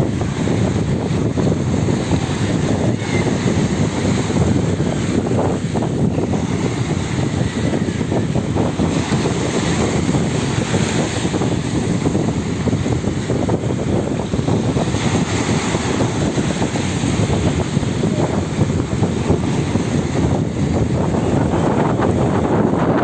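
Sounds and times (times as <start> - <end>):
sea water washing: 0.0 - 23.0
wind buffeting microphone: 0.0 - 23.0.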